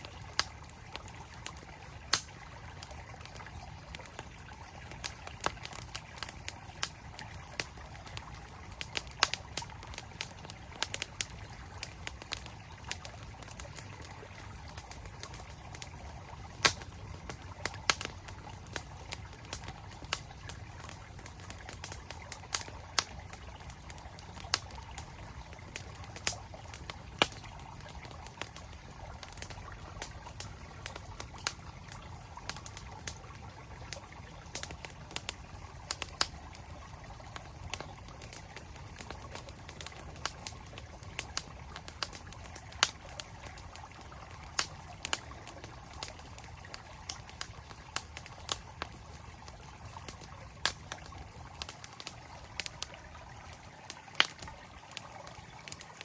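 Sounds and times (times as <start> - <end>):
campfire crackling and popping: 0.0 - 56.0
flowing stream: 0.0 - 56.0.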